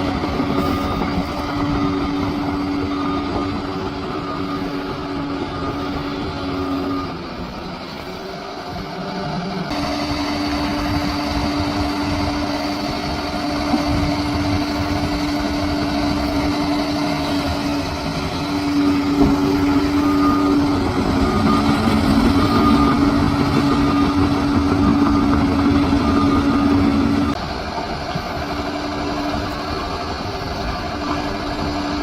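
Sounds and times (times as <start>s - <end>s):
bulldozer diesel engine droning: 0.0s - 32.0s.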